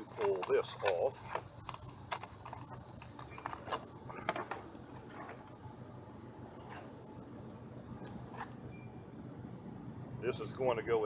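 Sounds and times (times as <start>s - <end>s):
insect chorus chirring: 0.0s - 11.0s.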